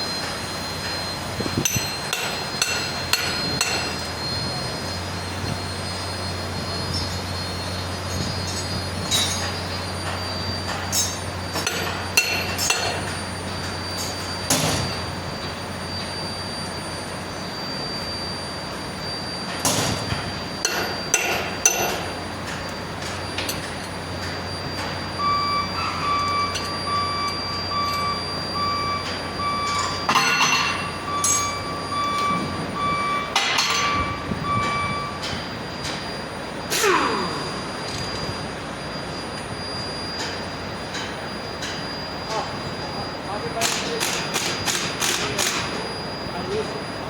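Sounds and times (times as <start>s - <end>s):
reversing alarm beeping: 0.0s - 47.0s.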